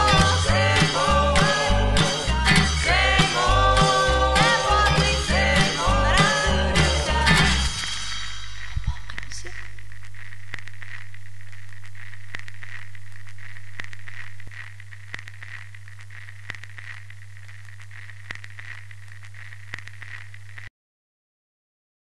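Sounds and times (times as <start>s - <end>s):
crackles and pops: 0.0s - 20.7s
film hiss: 0.0s - 20.7s
low hum: 0.0s - 20.7s.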